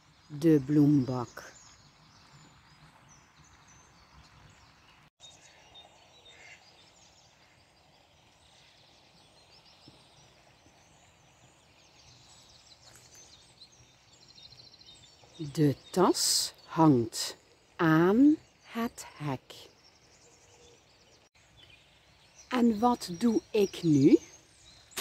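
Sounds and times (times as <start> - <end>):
faint birdsong chirps: 0.0 - 25.0
outdoor background hiss: 0.0 - 25.0.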